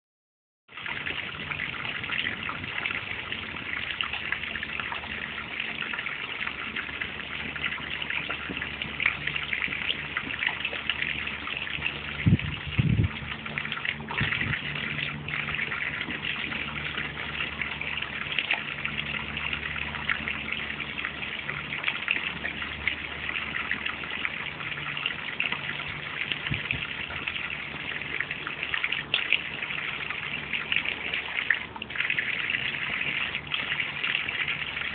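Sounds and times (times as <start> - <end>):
water jet splashing into pond: 0.7 - 34.9.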